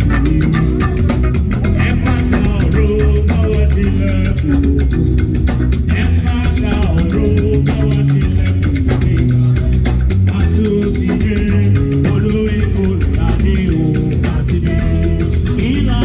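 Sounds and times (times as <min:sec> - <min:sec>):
loud music with steady beat: 0:00.0 - 0:16.0.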